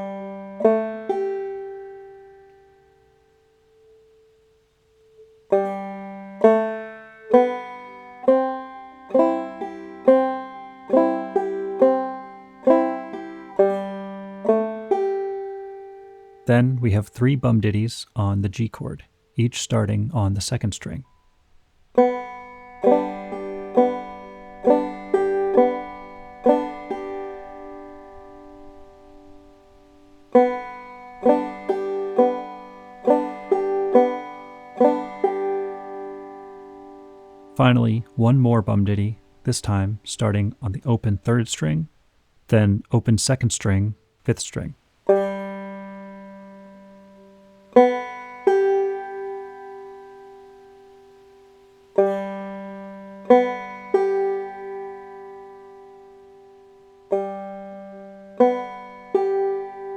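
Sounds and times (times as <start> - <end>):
banjo picking: 0.0 - 59.9.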